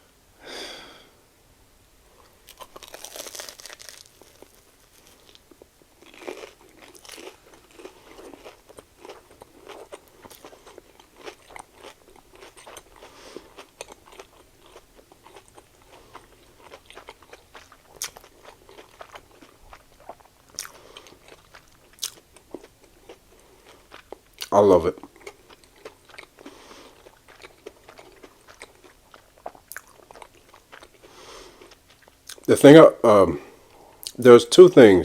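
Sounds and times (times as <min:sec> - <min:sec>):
crunchy biting and chewing: 0:02.2 - 0:32.5.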